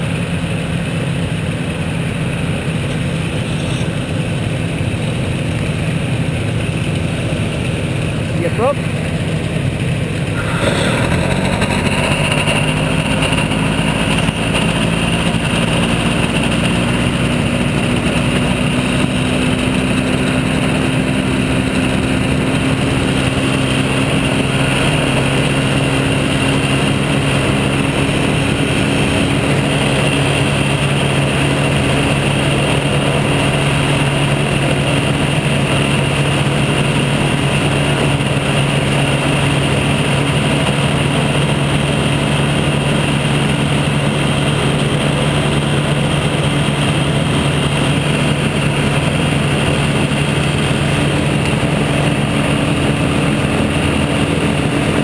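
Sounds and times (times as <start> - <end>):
engine and propeller running: 0.0 - 55.0.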